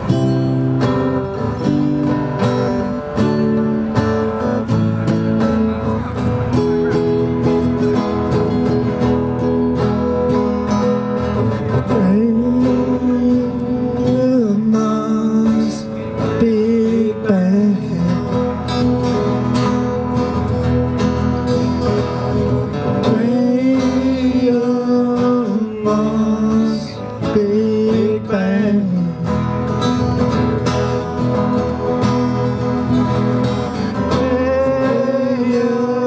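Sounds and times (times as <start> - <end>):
acoustic guitars strumming: 0.0 - 36.0.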